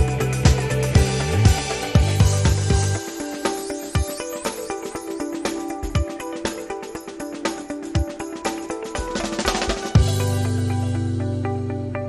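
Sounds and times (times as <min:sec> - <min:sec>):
background music with drum beat: 0:00.0 - 0:11.3.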